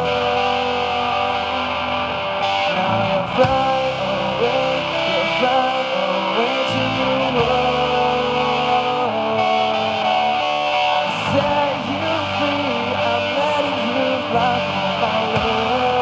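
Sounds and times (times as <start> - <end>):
electric guitar bending notes: 0.0 - 16.0
live rock band playing: 0.0 - 16.0.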